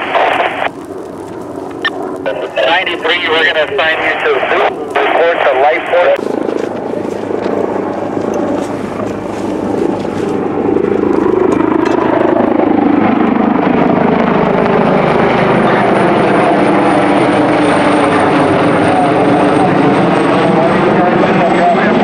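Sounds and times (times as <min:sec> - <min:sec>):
helicopter flying low overhead: 0:00.0 - 0:22.0.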